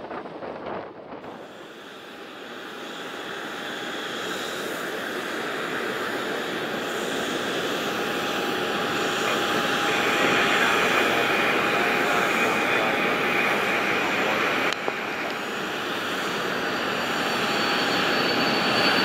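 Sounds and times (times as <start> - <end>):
jet engines roaring: 0.0 - 19.0
steady engine whine: 0.0 - 19.0
higher whine: 0.5 - 19.0.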